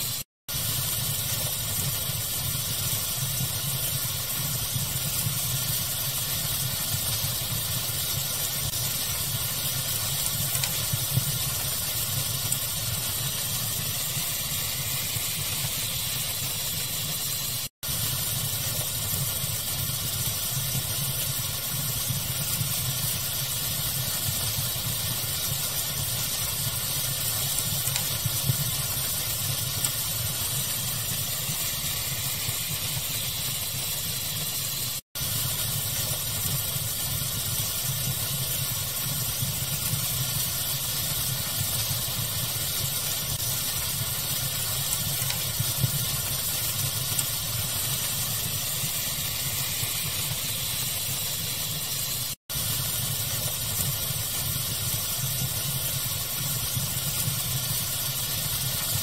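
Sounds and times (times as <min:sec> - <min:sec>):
fire crackling: 0:00.0 - 0:59.0
steady pink noise hiss: 0:00.0 - 0:59.0.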